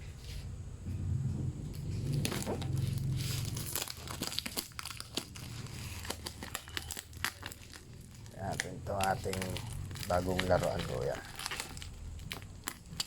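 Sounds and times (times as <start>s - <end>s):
packaging crinkling: 1.7s - 13.0s.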